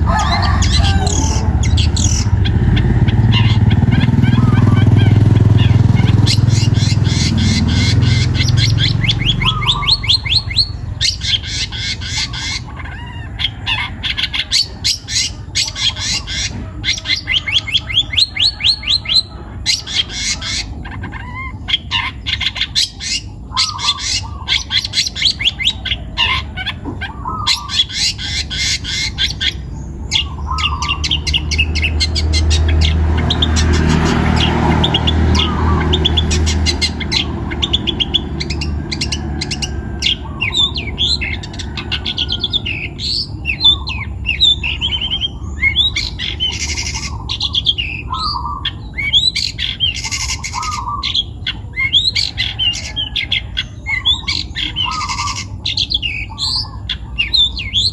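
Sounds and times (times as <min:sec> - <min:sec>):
bird singing with rattling chatter: 0:00.0 - 0:57.9.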